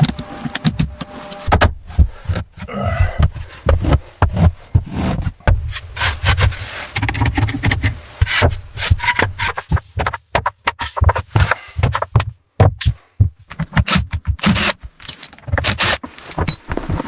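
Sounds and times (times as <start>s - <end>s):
knocks rubs and scrapes: 0.0s - 17.0s.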